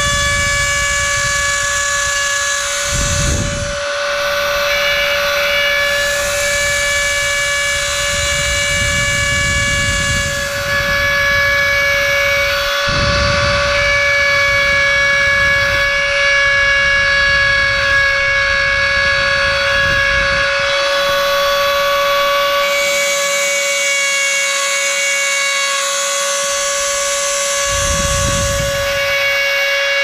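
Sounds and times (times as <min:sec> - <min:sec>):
rotary tool high whine: 0:00.0 - 0:30.0.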